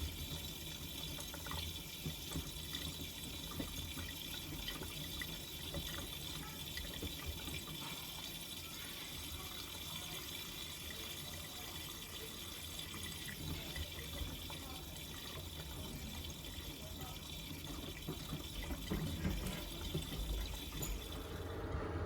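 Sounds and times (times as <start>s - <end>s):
water splashing in washing machine: 0.0s - 22.0s.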